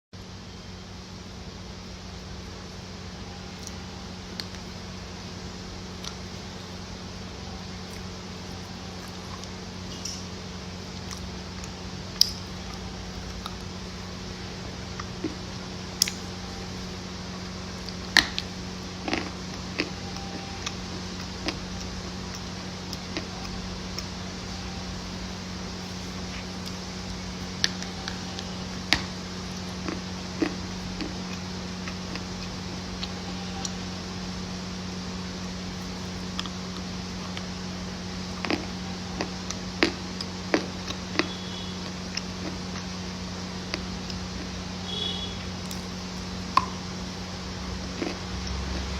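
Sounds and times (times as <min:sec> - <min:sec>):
fan hum: 0:00.0 - 0:48.9
crunchy food being chewed: 0:05.9 - 0:48.9.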